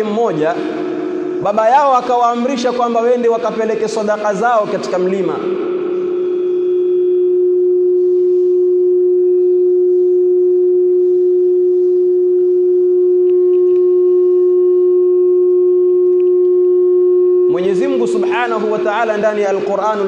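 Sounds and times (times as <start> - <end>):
steady feedback tone: 0.0 - 20.0.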